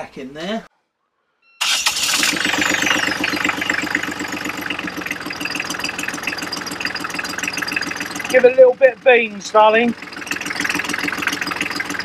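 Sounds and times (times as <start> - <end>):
diesel engine idling: 1.6 - 12.0.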